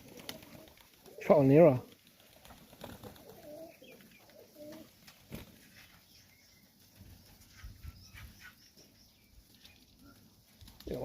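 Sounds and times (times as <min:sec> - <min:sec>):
pigeons cooing softly: 0:00.0 - 0:11.0.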